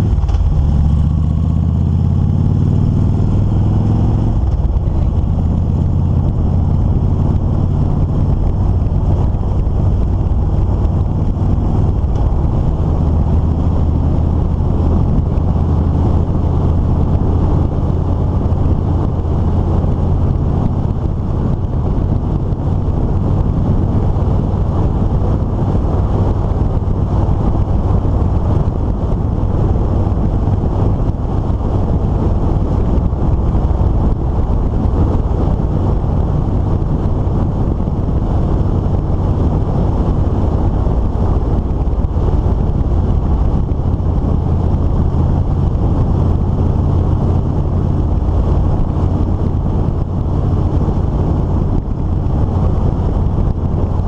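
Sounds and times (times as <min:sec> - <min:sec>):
motorcycle engine cruising: 0:00.0 - 0:54.0
wind on microphone: 0:00.0 - 0:54.0.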